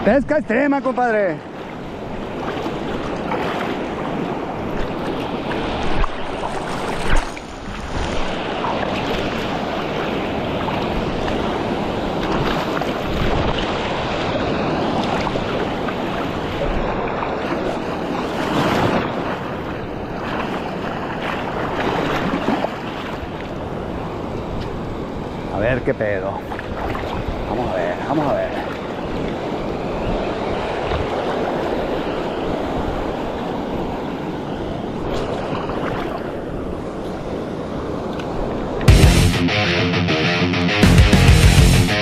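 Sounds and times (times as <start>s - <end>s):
waves washing around rocks: 0.0s - 38.9s.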